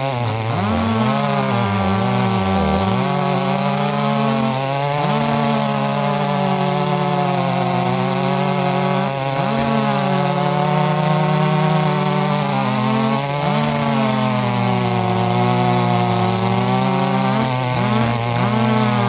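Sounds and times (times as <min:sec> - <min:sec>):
chainsaw engine at high revs: 0:00.0 - 0:19.0.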